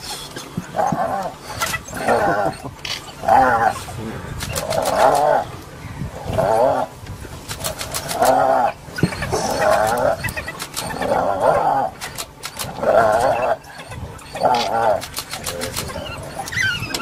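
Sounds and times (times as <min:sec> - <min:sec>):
hyena yelping: 0:00.8 - 0:07.0, 0:07.6 - 0:17.0.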